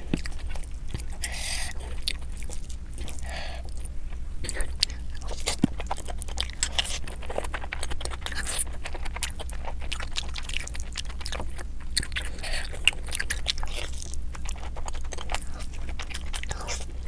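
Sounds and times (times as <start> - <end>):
chewing with wet mouth smacks: 0.0 - 17.0
steady low hum: 0.0 - 17.0.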